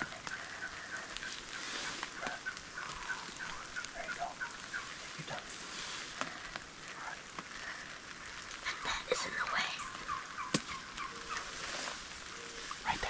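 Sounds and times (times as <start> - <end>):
wild turkeys calling: 0.0 - 13.0.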